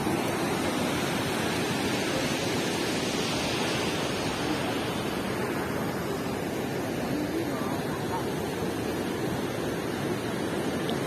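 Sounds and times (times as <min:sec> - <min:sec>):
river water rushing through weir: 0:00.0 - 0:11.0.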